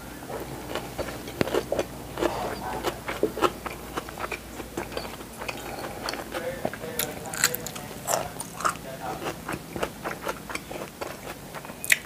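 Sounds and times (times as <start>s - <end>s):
person chewing wetly: 0.3s - 12.0s.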